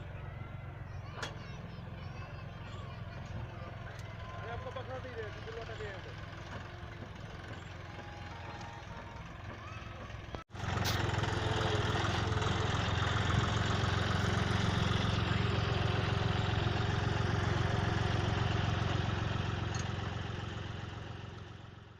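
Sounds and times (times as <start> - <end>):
tractor engine idling: 0.0 - 21.9.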